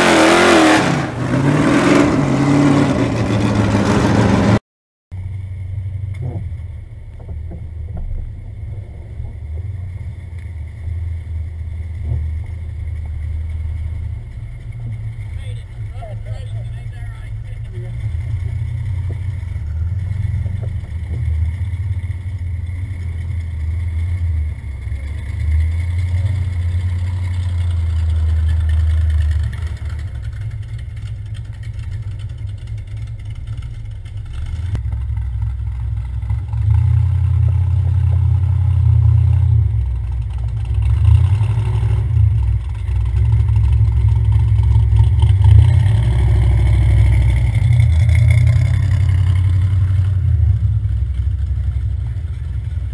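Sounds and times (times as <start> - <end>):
vehicle driving on mud tyres: 0.0 - 52.9
off-road vehicle engines idling: 2.2 - 52.9.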